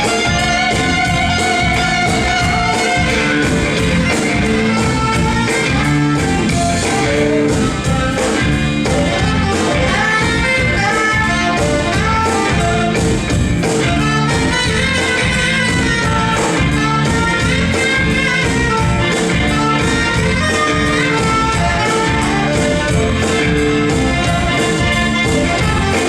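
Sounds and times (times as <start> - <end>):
live band playing soul blues: 0.0 - 26.0
steady drum beat: 0.0 - 26.0.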